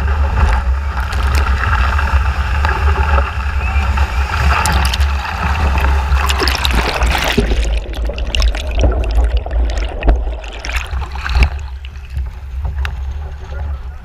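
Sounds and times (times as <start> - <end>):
muffled underwater gurgling: 0.0 - 14.0
water splashing and trickling: 0.0 - 14.0.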